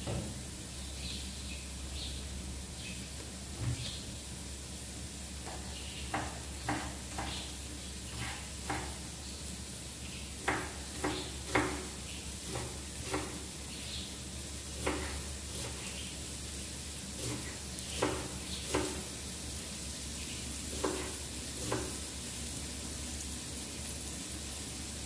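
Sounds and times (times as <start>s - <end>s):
faint sizzle: 0.0s - 25.0s.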